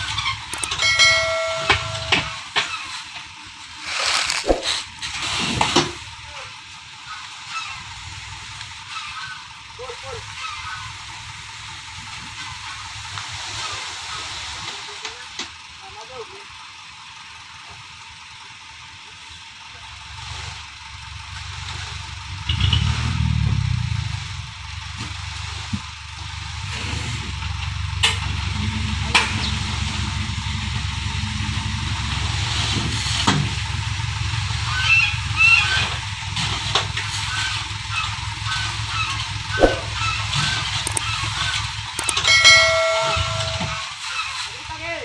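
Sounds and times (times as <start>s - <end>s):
truck engine drone: 0.0s - 45.0s.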